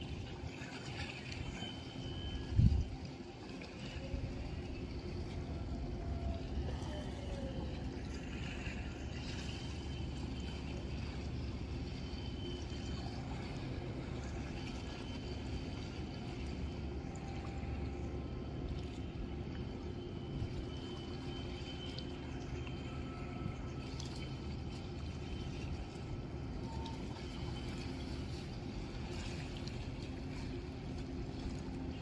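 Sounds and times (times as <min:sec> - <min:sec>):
boat engines rumbling: 0:00.0 - 0:32.0
water sloshing: 0:00.0 - 0:32.0.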